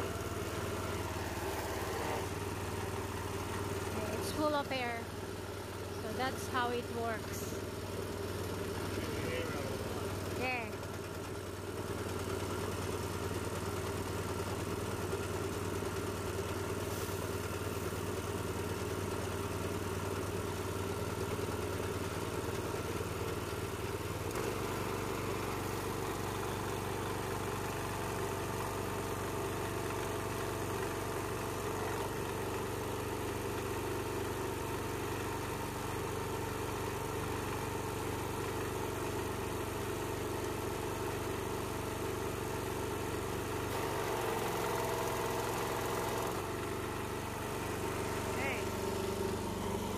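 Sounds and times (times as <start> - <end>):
small petrol engine running: 0.0 - 49.9.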